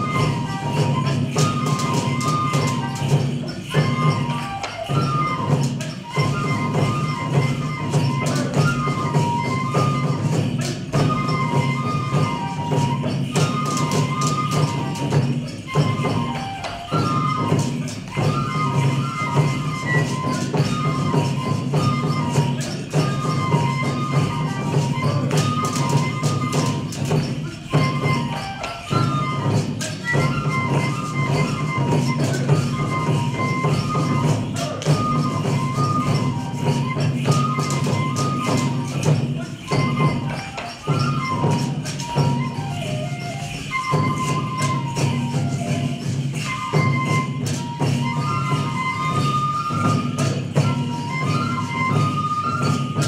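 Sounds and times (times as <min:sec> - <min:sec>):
drum beats: 0:00.0 - 0:53.0
high flute melody: 0:00.0 - 0:53.0
jingling percussion: 0:00.0 - 0:53.0.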